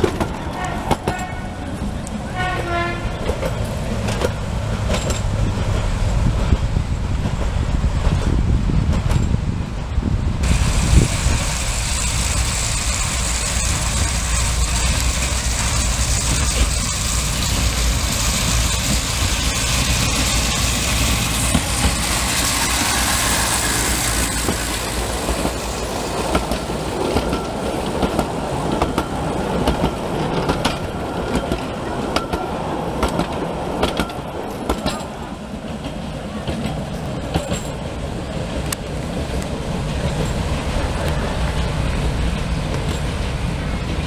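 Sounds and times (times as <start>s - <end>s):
wheels clattering on rails: 0.0s - 9.8s, 10.4s - 44.0s
miniature train rumbling: 0.0s - 44.0s.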